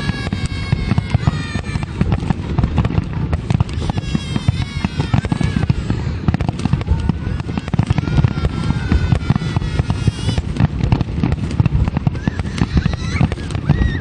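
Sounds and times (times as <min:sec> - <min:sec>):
fireworks bursting and crackling: 0:00.0 - 0:14.0.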